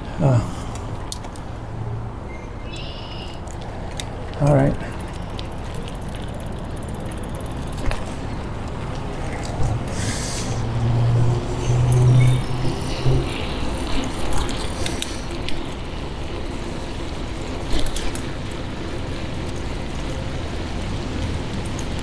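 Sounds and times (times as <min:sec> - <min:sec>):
bike clicks and rattles: 0:00.6 - 0:01.6, 0:02.4 - 0:22.0
bicycle rolling on paving: 0:00.6 - 0:22.0.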